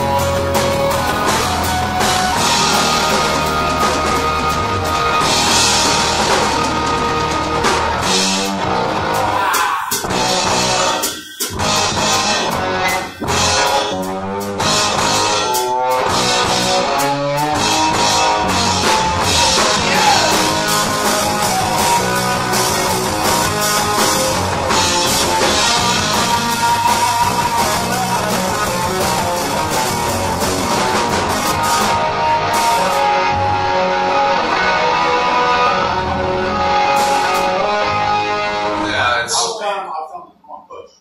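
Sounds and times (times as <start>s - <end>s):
drum kit: 0.0s - 39.1s
electric guitar: 0.0s - 39.3s
bass guitar: 0.0s - 39.4s.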